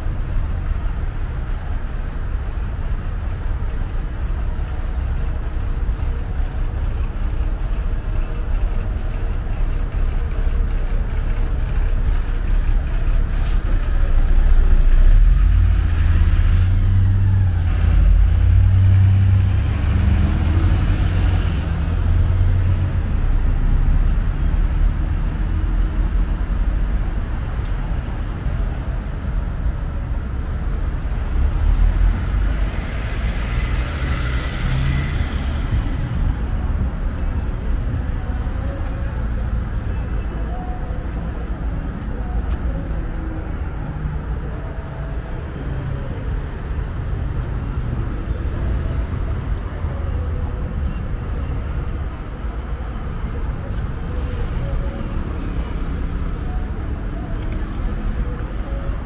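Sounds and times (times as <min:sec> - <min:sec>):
bus engine rumble: 0:00.0 - 0:59.0
cars passing: 0:00.0 - 0:59.0.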